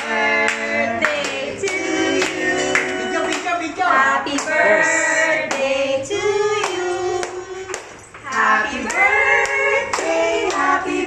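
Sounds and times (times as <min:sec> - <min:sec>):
voices singing a birthday song: 0:00.0 - 0:11.0.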